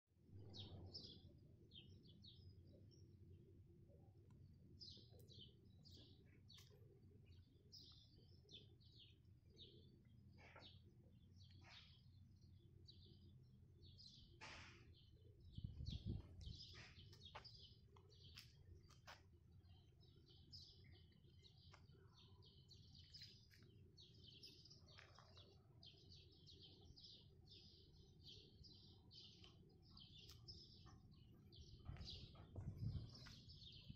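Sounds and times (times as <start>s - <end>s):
small birds chirping: 0.4s - 33.9s.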